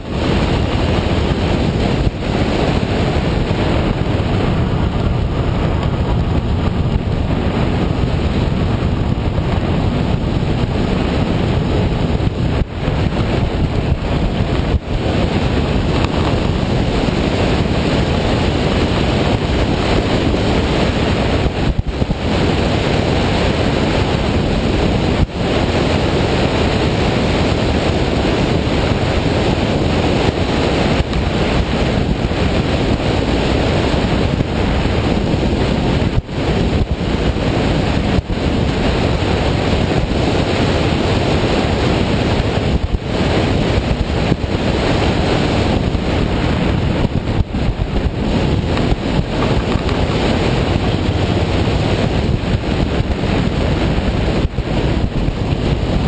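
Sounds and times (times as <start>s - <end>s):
wind rush over microphone: 0.0s - 56.0s.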